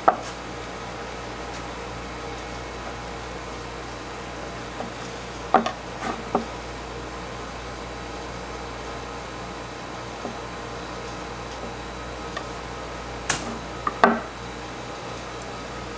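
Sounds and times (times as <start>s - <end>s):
steady machine hum: 0.0s - 15.9s.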